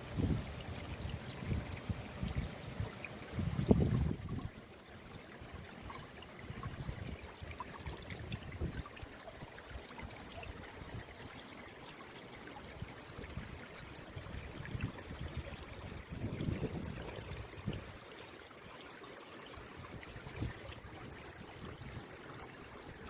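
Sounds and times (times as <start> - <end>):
stream trickling over stones: 0.0 - 23.0.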